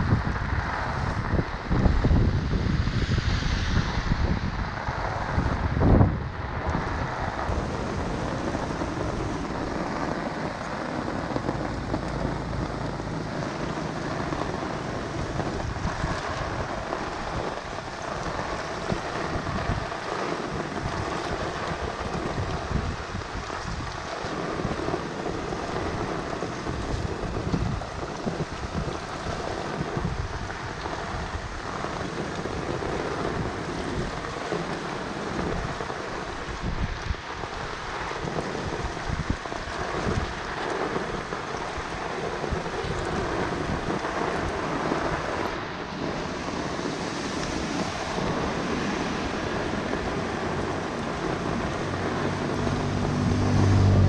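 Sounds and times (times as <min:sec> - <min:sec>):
rain falling on street: 0:00.0 - 0:54.0.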